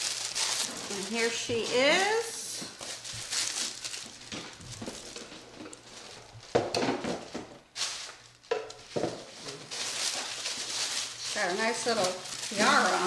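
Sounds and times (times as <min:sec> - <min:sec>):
plastic packing rustling: 0:00.0 - 0:13.0.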